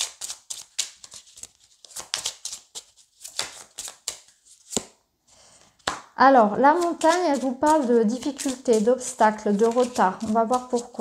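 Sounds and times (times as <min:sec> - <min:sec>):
cards being shuffled: 0:00.0 - 0:05.0, 0:06.7 - 0:11.0.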